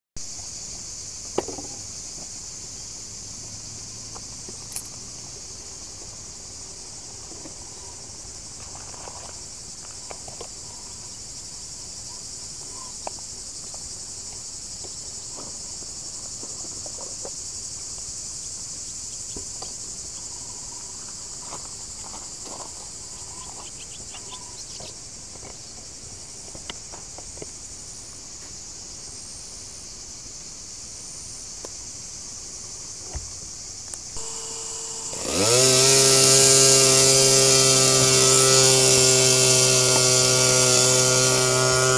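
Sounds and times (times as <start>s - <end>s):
high-pitched insect chorus: 0.2s - 41.9s.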